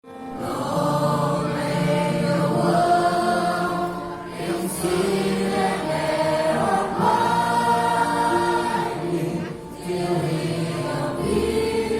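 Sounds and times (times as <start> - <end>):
children's choir singing: 0.1 - 11.9.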